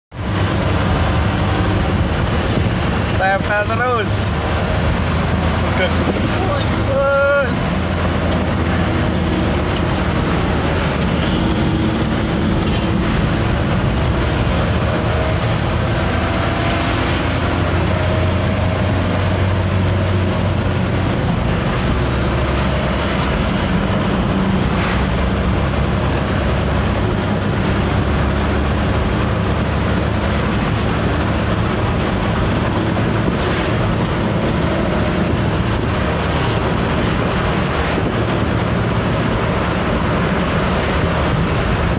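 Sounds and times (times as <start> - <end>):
truck engine rumbling: 0.1 - 41.9
tyre and road noise: 0.1 - 41.9.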